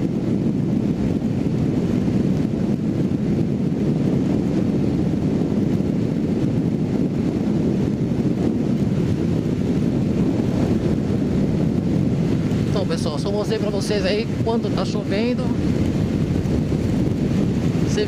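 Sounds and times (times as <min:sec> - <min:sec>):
motorcycle engine cruising: 0:00.0 - 0:18.0
wind rush over microphone: 0:00.0 - 0:18.0.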